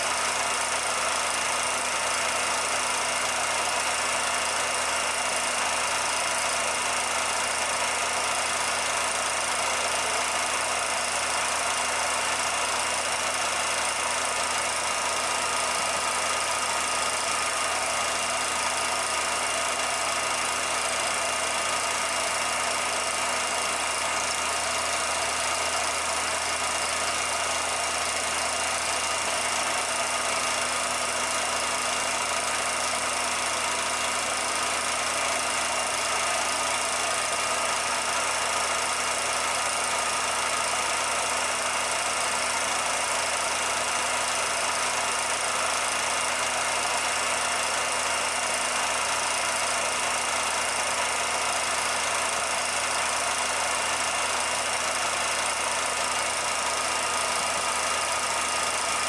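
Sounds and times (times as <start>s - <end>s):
film projector running with hiss: 0.0s - 59.0s.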